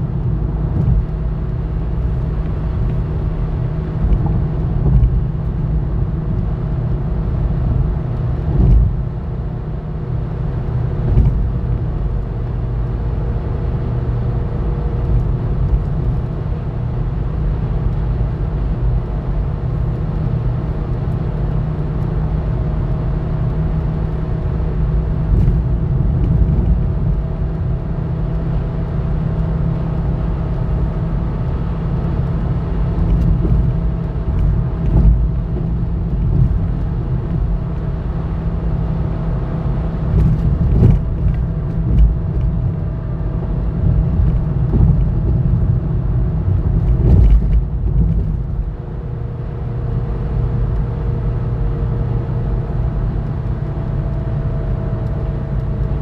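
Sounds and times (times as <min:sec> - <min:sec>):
car interior road noise: 0:00.0 - 0:56.0.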